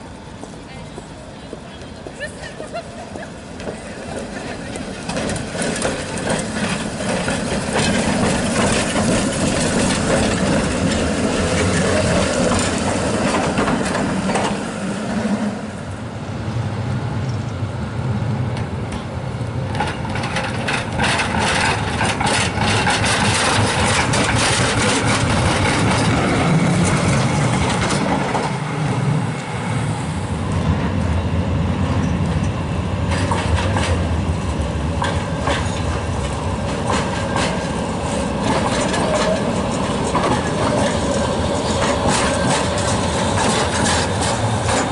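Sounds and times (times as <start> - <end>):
trams rumbling and motor hum: 0.0 - 44.9
wheels clicking on rails: 1.5 - 14.7, 18.6 - 28.7, 31.9 - 44.9.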